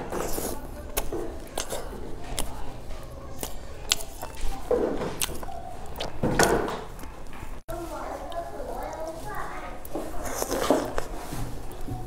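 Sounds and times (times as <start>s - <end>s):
chewing pastry: 0.0s - 12.0s.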